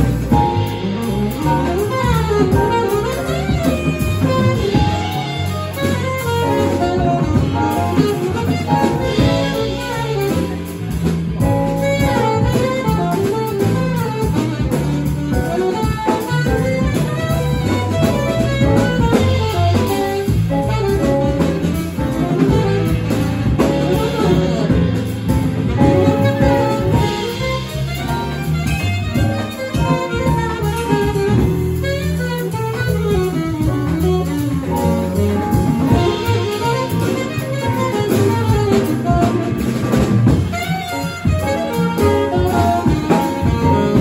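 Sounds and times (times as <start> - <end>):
drum kit: 0.0 - 44.0
piano: 0.0 - 44.0
saxophone melody: 0.0 - 44.0
upright bass: 0.0 - 44.0.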